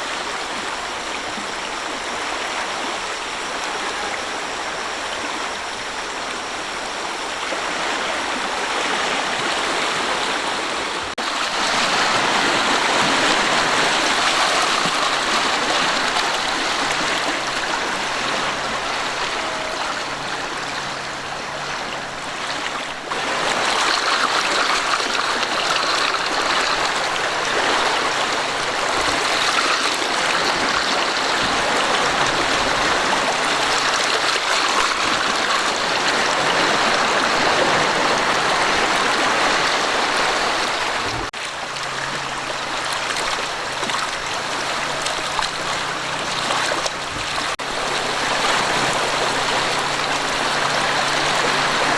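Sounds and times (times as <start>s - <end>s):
flooded river rushing: 0.0s - 51.9s.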